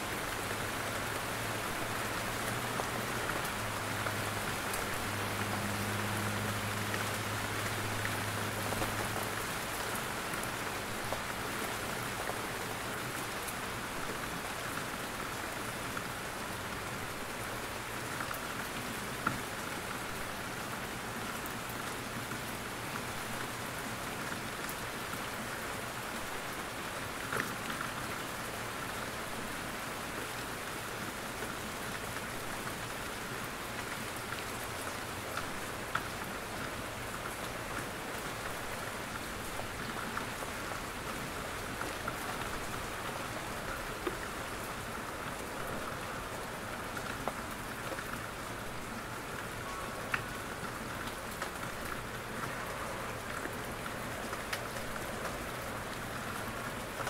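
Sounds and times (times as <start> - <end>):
rain falling in forest: 0.0 - 57.0.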